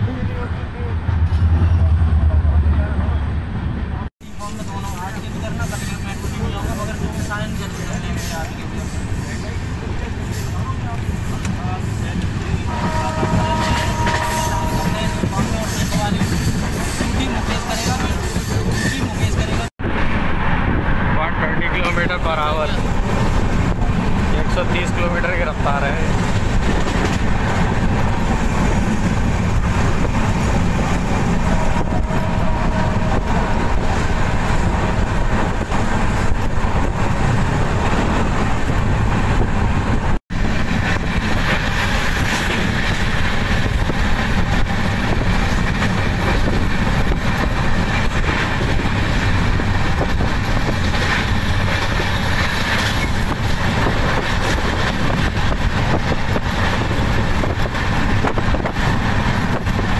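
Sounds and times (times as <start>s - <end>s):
train coach rumbling and rattling: 0.0s - 59.9s.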